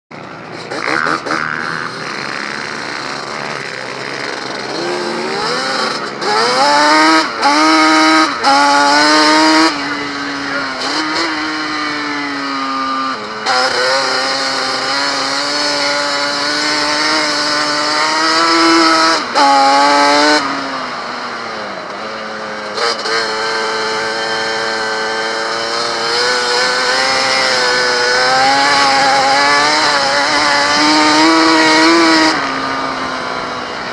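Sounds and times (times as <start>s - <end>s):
quad engine revving: 0.2s - 33.9s.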